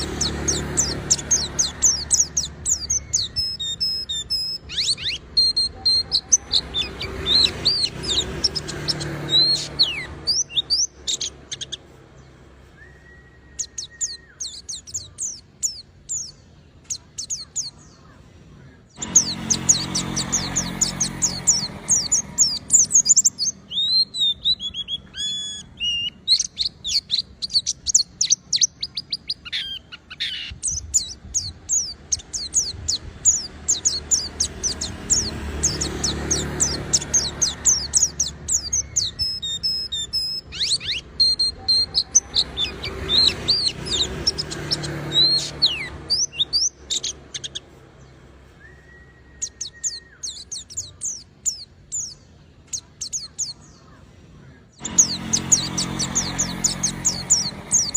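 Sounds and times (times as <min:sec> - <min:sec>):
bird twittering song: 0:00.0 - 0:57.9.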